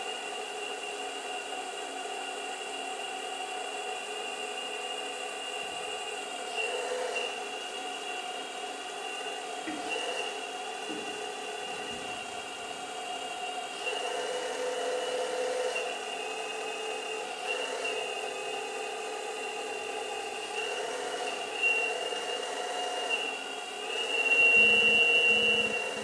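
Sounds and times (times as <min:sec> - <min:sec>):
hydraulic pump whining: 0:04.8 - 0:26.0.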